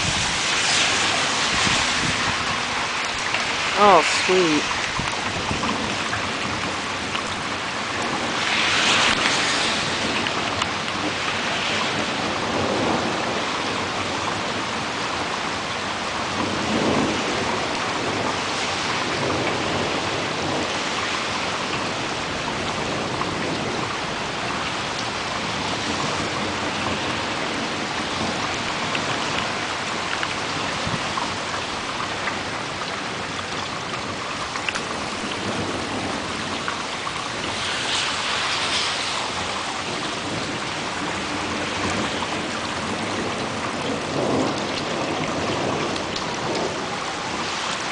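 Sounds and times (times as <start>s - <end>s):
thunder rumbling: 0.0s - 15.3s, 16.3s - 47.9s
heavy rain falling: 0.0s - 47.9s.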